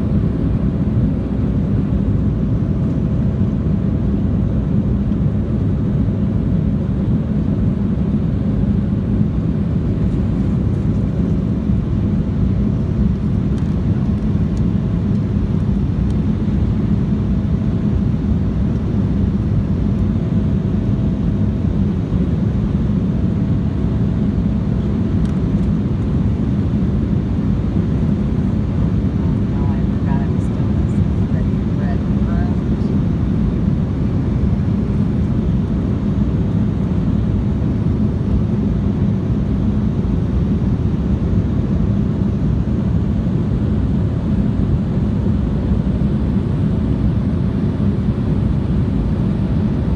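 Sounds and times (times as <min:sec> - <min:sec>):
airliner cabin engine noise: 0:00.0 - 0:49.9.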